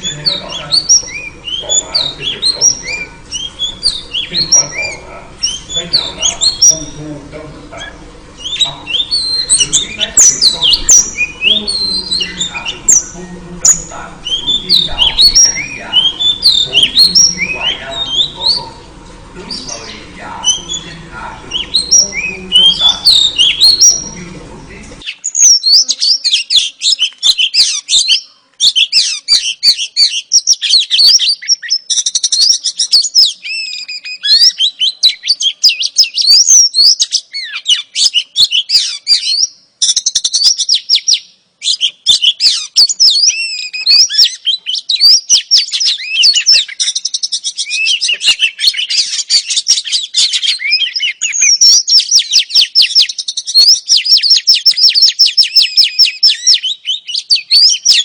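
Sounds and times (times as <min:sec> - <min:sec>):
bird singing chirps and whistles: 0:00.0 - 0:07.1, 0:07.7 - 0:24.3, 0:25.0 - 0:58.0.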